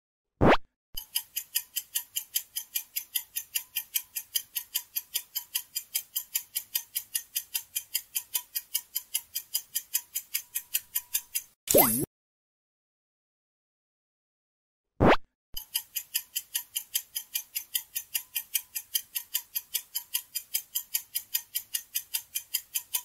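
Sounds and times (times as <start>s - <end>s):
clock ticking fast: 1.0s - 12.1s, 15.6s - 23.0s.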